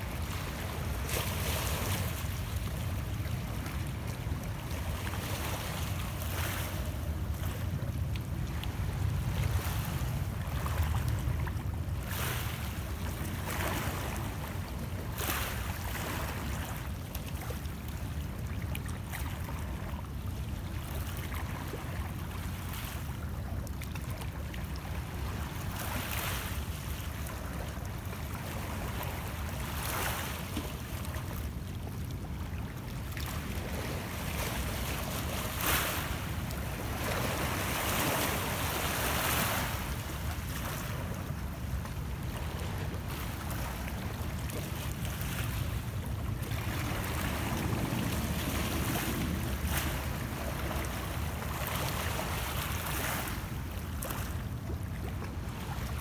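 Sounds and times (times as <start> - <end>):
waves lapping against rocks: 0.1 - 56.0.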